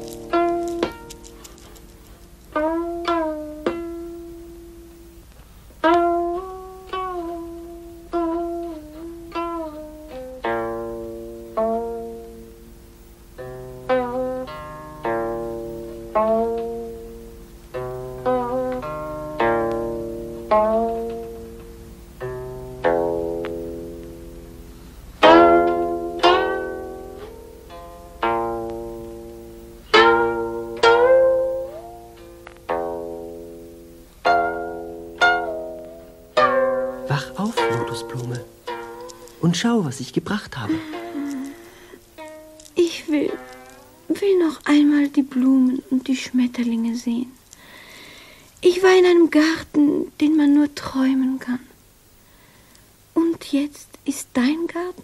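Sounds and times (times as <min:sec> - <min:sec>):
plucked string instrument melody: 0:00.0 - 0:50.1.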